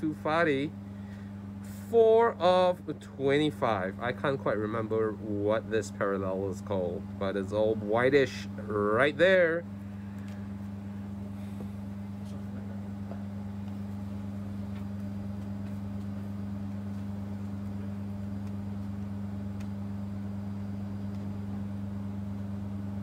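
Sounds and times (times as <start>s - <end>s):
steady low two-tone hum: 0.0s - 23.0s.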